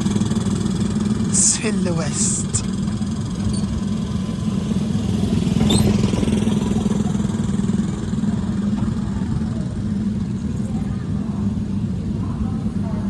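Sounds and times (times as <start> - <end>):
electric ride car humming: 0.0 - 13.0.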